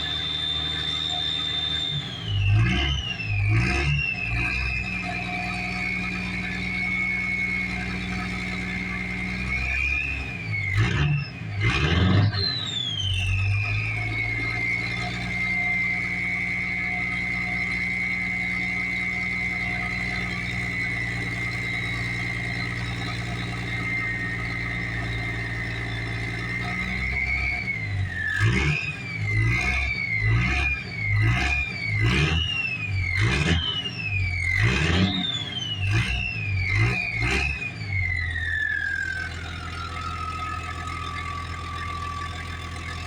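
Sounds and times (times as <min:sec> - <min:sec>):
diesel engine revving: 0:00.0 - 0:43.0
turbo whistle: 0:00.0 - 0:43.0.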